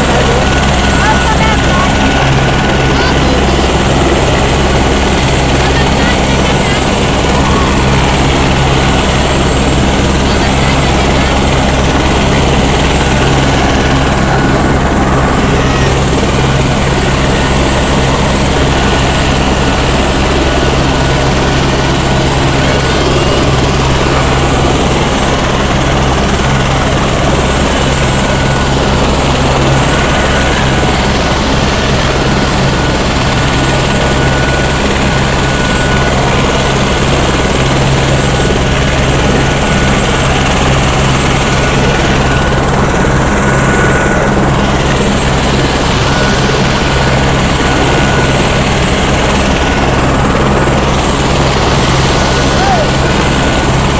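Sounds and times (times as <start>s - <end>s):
helicopter rotor hum: 0.0s - 53.9s
high turbine whine: 0.0s - 53.9s.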